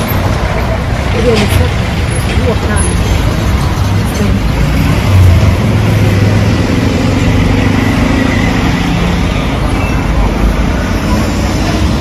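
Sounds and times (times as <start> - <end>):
street noise: 0.0 - 12.0
vehicle engine humming: 0.0 - 12.0.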